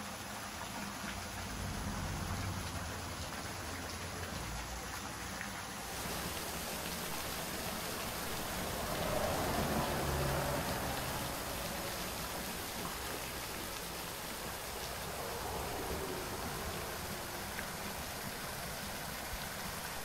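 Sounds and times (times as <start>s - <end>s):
small waterfall splashing into pool: 0.0s - 20.0s.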